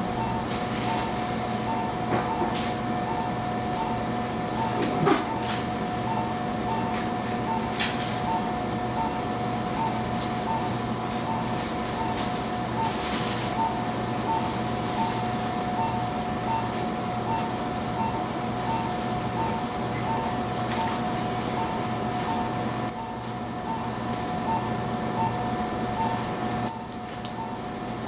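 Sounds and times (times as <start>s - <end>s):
constant electronic tone and hum: 0.0s - 28.0s
monitor beeping: 0.1s - 27.6s.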